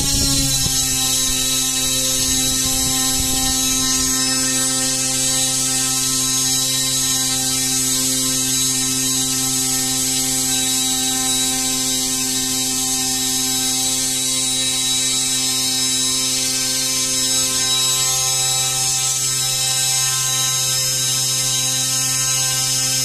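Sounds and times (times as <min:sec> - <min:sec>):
electric motor humming: 0:00.0 - 0:23.0.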